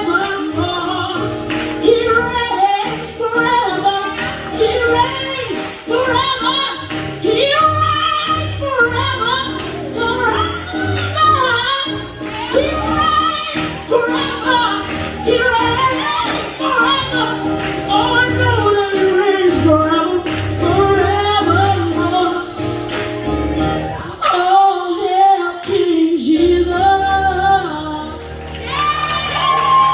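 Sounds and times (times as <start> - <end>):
high voice singing worship song: 0.0 - 29.9
musical accompaniment with bass: 0.0 - 29.9.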